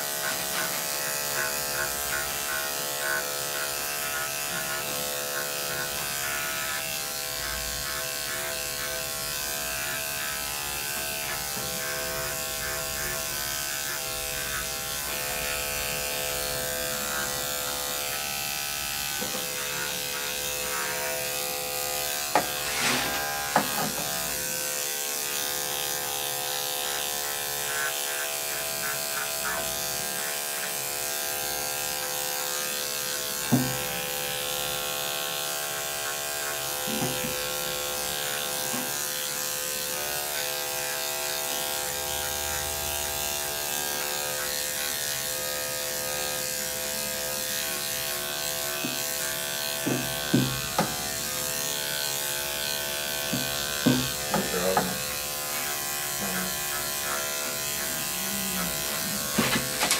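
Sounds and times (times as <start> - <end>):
electric clippers buzzing: 0.0 - 59.9.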